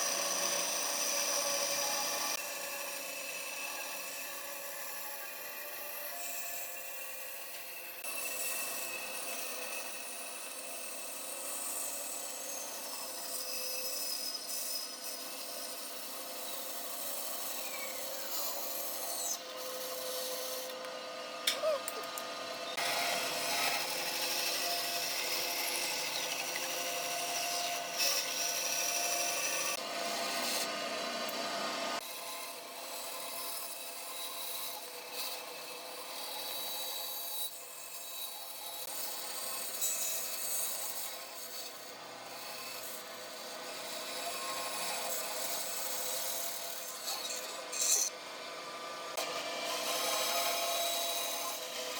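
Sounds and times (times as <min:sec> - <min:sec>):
woodworking tool rasping wood: 0:00.0 - 0:21.8, 0:22.7 - 0:31.3, 0:32.0 - 0:51.9.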